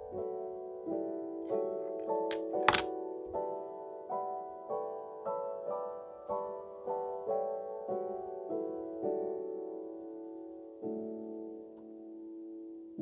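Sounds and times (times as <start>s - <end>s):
piano-like keyboard melody: 0.0s - 13.0s.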